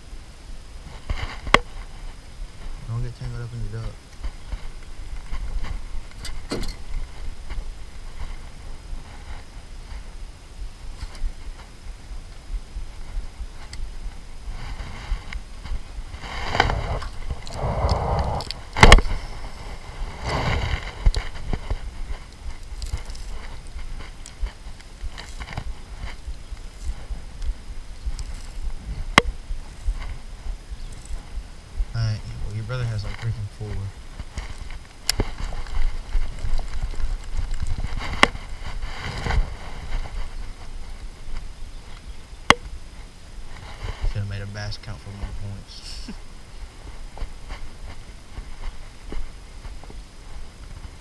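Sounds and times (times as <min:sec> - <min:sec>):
wind buffeting microphone: 0:00.0 - 0:45.6.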